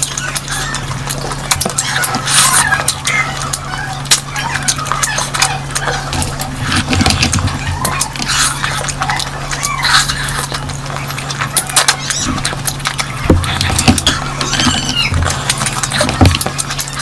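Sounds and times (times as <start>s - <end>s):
person chewing wetly: 0.0s - 17.0s
steady low hum: 0.0s - 17.0s.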